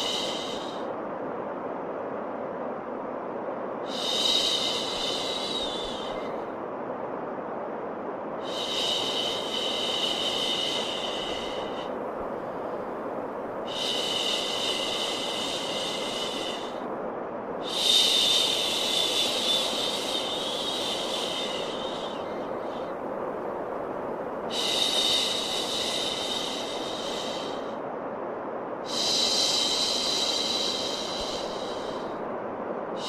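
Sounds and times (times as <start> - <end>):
white noise: 0.0 - 33.0.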